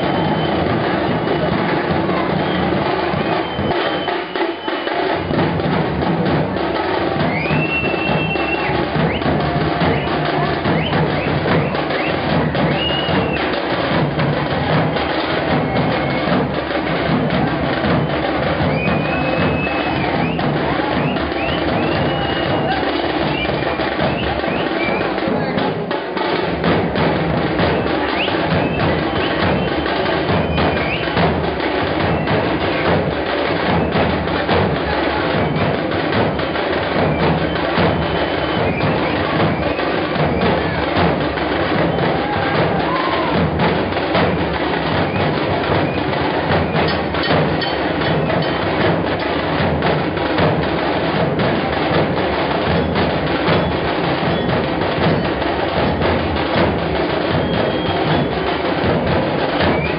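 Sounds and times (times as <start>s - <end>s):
deep drumbeats: 0.0s - 59.9s
drum band playing fast: 0.0s - 59.9s.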